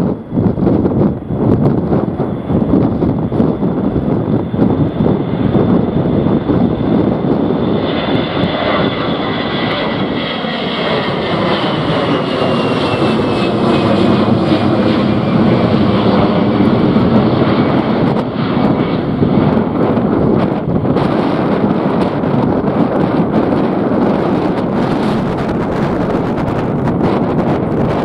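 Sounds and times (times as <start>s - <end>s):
jet engines roaring at take-off: 0.0s - 28.0s
jet fan whine: 0.0s - 28.0s.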